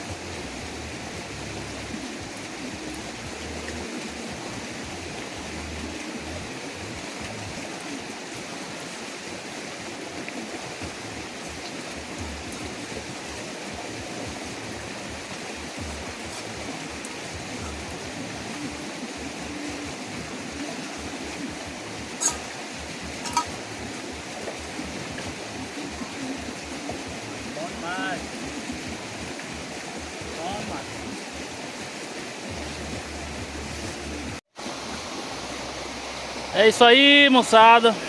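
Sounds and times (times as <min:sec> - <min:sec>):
creek water flowing: 0:00.0 - 0:38.0.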